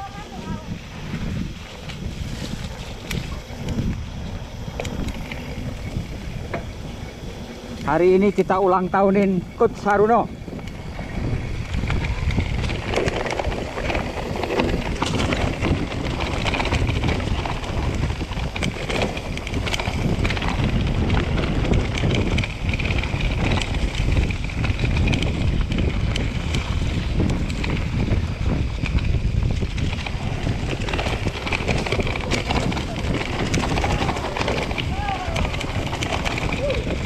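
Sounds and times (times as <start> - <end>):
bike clicking and rattling: 0.0 - 37.0
tyres rumbling on dirt: 0.0 - 37.0
wind buffeting microphone: 0.0 - 37.0.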